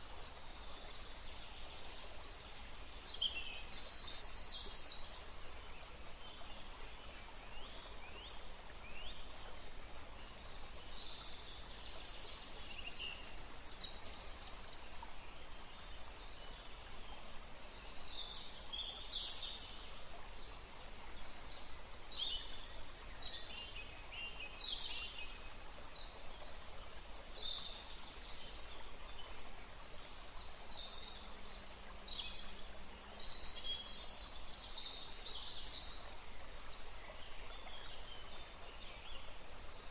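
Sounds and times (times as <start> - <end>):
background hiss: 0.0 - 39.9
songbirds chirping: 0.0 - 39.9.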